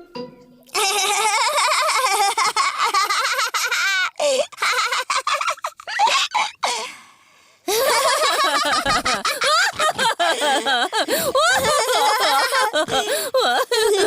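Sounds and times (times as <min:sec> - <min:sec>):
cartoon characters giggling: 0:00.8 - 0:06.7, 0:07.7 - 0:14.0.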